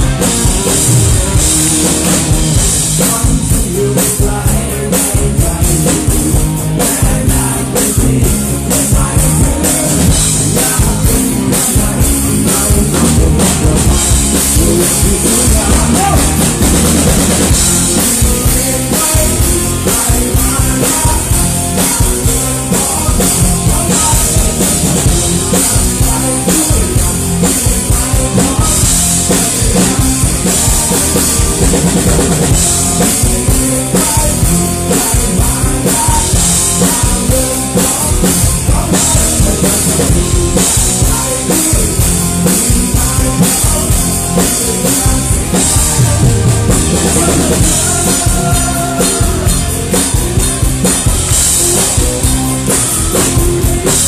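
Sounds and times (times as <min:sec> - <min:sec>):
bass guitar: 0:00.0 - 0:54.0
drum kit beat: 0:00.0 - 0:54.0
electric guitar: 0:00.0 - 0:54.0.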